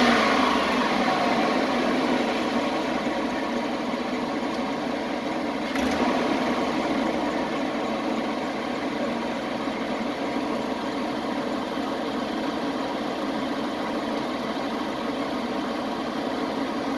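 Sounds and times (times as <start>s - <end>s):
van engine idling: 0.0s - 16.9s.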